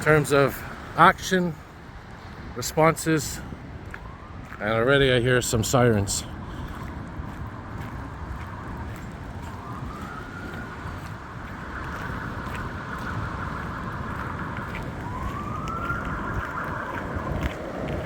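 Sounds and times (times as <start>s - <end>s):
emergency siren wailing: 0.0s - 18.0s
wind rumble on microphone: 1.7s - 18.0s.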